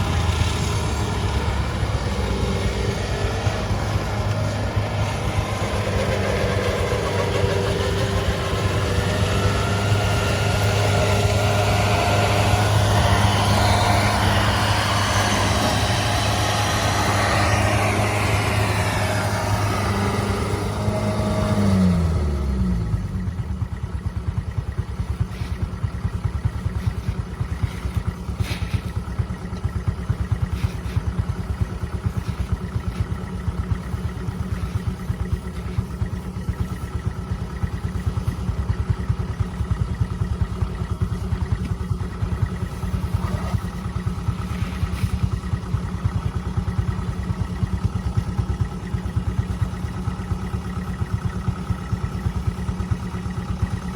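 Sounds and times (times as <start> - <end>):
combine harvester engine: 0.0 - 53.9.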